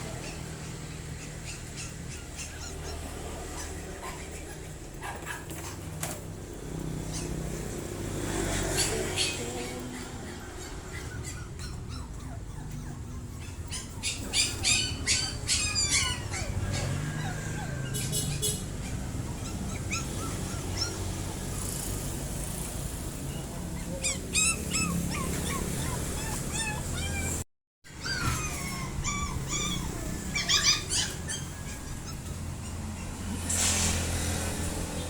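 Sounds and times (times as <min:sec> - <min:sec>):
animals yelping and chirping: 0:00.0 - 0:35.0.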